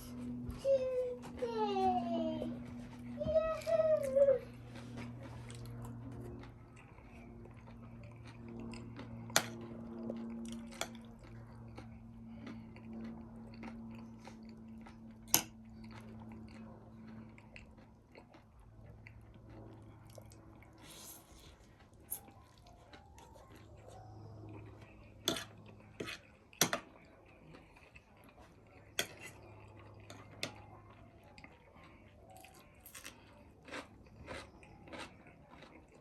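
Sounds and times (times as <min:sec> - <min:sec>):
person chewing and crunching food: 0:00.0 - 0:36.0
steady low hum: 0:00.0 - 0:36.0.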